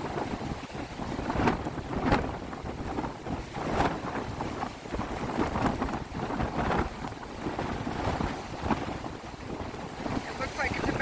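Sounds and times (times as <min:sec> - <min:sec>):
waves crashing on rocky shore: 0:00.0 - 0:11.0
wind buffeting microphone: 0:00.0 - 0:11.0.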